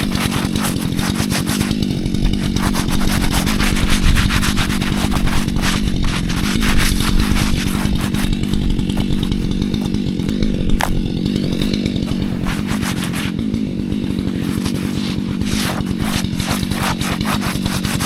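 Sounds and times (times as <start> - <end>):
chainsaw cutting a stump: 0.0 - 18.0.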